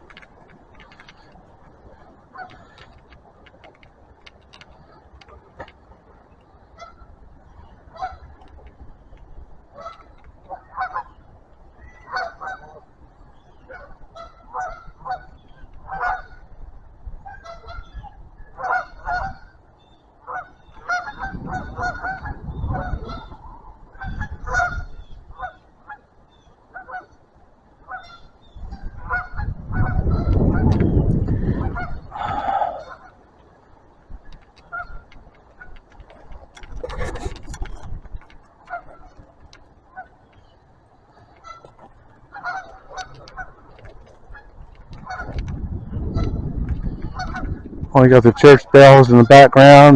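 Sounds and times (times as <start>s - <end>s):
geese honking: 0.8s - 3.5s, 6.6s - 8.7s, 9.7s - 16.6s, 17.2s - 33.8s, 34.6s - 37.4s, 38.2s - 49.9s.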